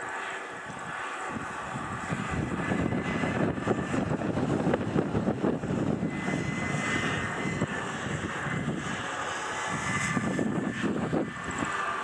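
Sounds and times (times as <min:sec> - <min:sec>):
jet engine whine: 0:00.0 - 0:12.0
jet engines rumbling: 0:00.0 - 0:12.0.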